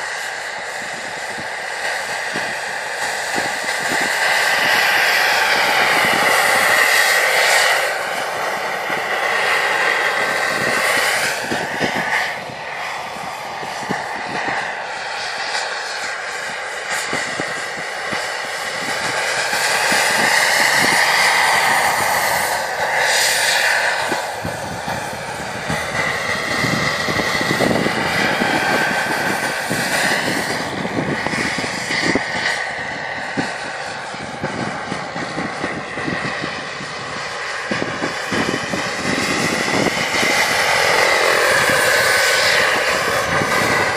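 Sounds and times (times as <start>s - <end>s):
model helicopter turbine and rotor: 0.0s - 43.9s.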